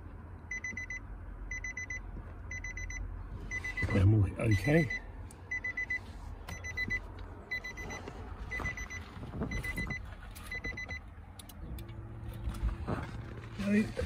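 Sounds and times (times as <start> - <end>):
car warning chime beeping: 0.4 - 11.9.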